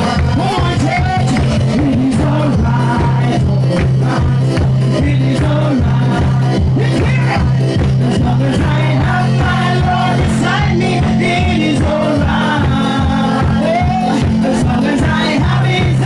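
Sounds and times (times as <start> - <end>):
voices singing: 0.0 - 16.0
worship band playing: 0.0 - 16.0.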